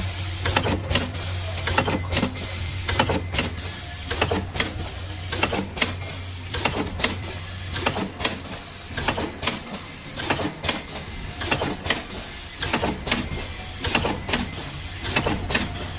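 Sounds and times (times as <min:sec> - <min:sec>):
packing machine clicking and clacking: 0:00.0 - 0:15.9
steady low machine hum: 0:00.0 - 0:15.9.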